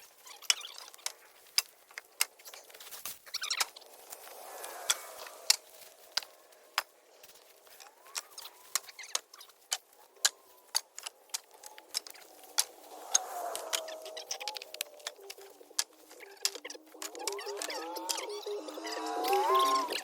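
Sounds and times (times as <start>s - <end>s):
dry twigs cracking and snapping: 0.0s - 20.0s.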